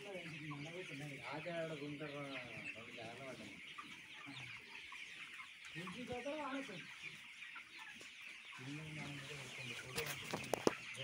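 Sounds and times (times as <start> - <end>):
chickens clucking and cheeping: 0.0 - 11.0.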